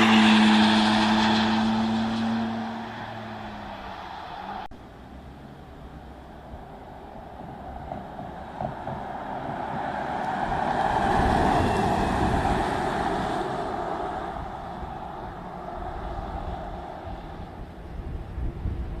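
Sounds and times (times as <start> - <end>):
car tyre and road noise passing: 0.0 - 19.0.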